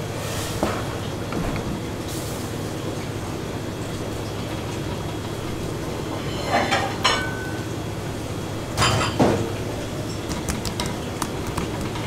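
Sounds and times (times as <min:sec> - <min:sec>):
kitchen machinery rumble: 0:00.0 - 0:12.0.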